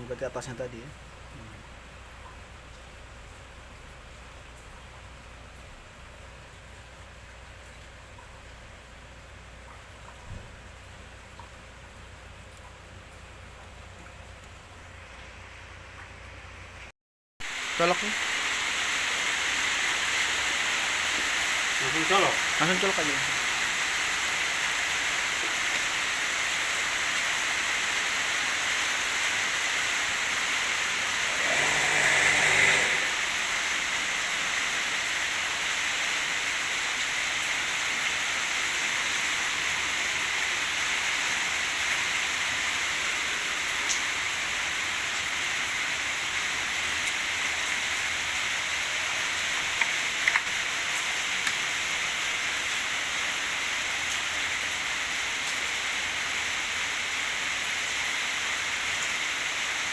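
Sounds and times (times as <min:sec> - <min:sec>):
running water hiss: 0:00.0 - 0:59.9.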